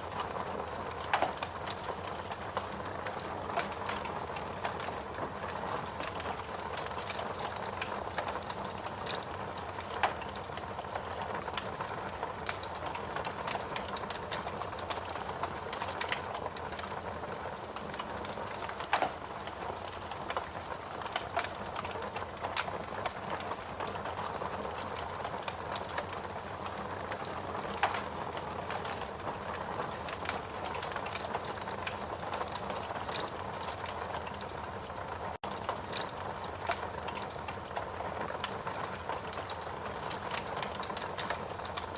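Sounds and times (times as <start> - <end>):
loud fire snaps: 0.0 - 34.5, 35.2 - 41.9
log fire crackling: 0.0 - 41.9.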